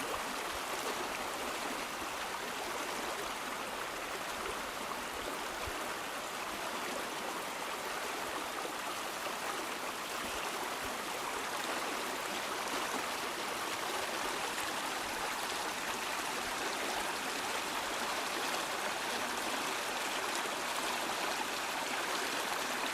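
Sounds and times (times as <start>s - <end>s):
stream rushing over rocks: 0.0s - 22.9s.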